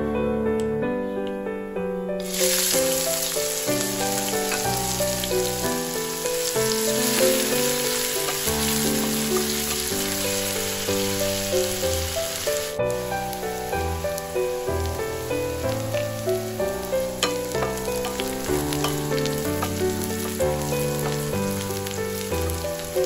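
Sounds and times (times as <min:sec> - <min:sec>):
background music: 0:00.0 - 0:23.0
onions sizzling in hot oil: 0:02.2 - 0:23.0.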